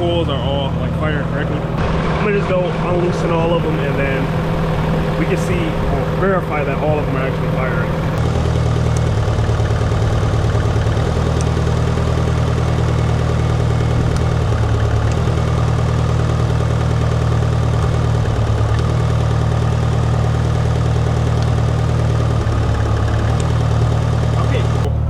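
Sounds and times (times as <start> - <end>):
engine idling and misfiring: 0.0 - 25.0.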